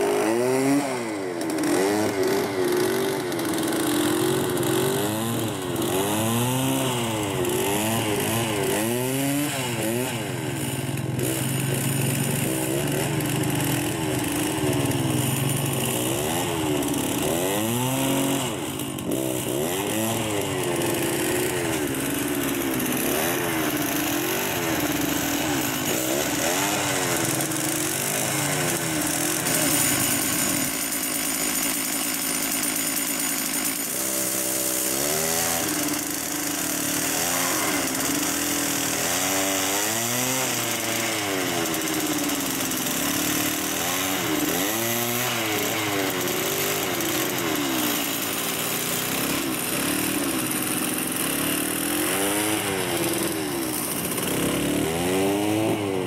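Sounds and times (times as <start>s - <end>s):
small petrol engine revving: 0.0s - 56.0s.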